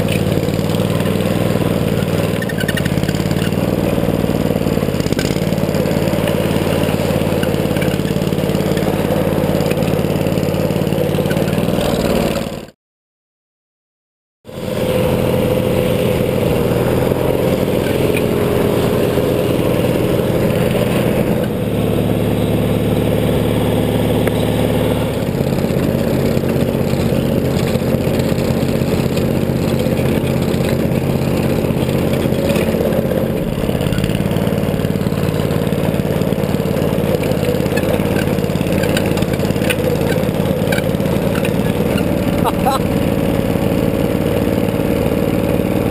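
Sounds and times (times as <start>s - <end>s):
small gasoline engine running: 0.0s - 12.7s, 14.5s - 45.9s.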